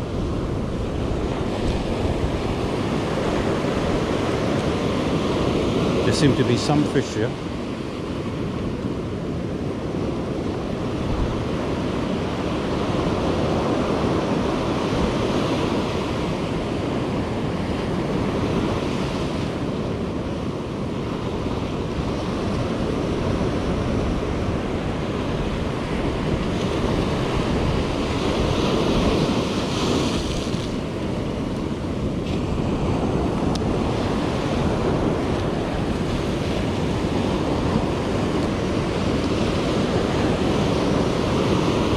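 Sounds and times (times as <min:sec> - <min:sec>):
ocean surf breaking on beach: 0:00.0 - 0:41.9.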